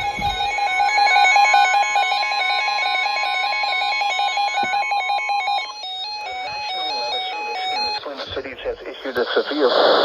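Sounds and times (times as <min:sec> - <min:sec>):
steady alarm tone: 0:00.0 - 0:09.8.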